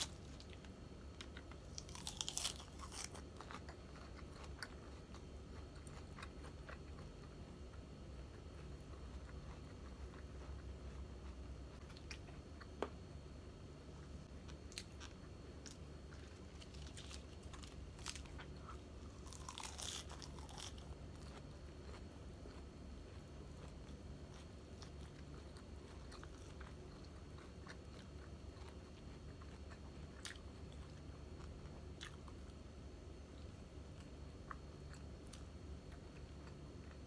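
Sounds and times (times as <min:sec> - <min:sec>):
person chewing: 0:00.0 - 0:12.8, 0:14.2 - 0:32.6.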